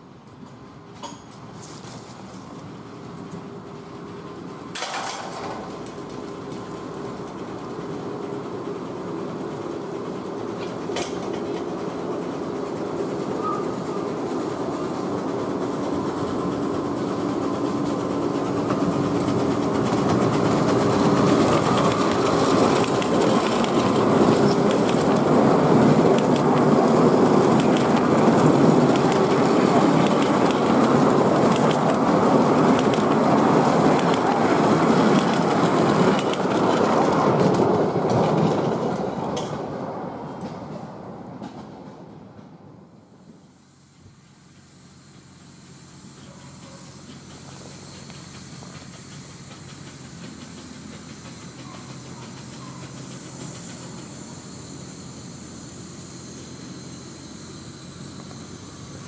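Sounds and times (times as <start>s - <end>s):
miniature steam locomotive running: 0.0s - 41.8s, 42.9s - 59.0s.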